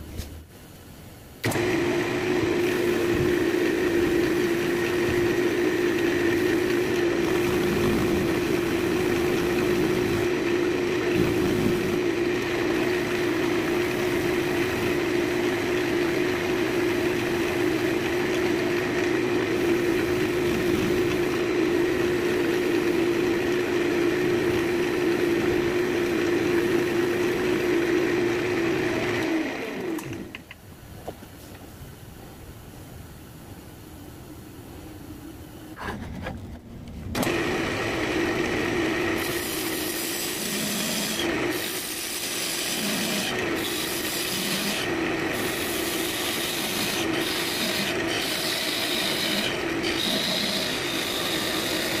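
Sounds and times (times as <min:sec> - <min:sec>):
wood lathe motor hum: 0:01.4 - 0:30.4, 0:37.2 - 0:52.0.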